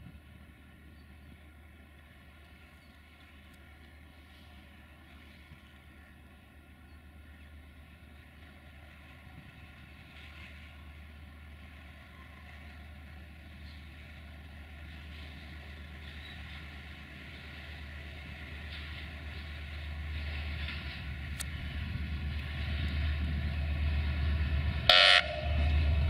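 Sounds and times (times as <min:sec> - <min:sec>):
diesel train engines droning: 0:00.0 - 0:26.0.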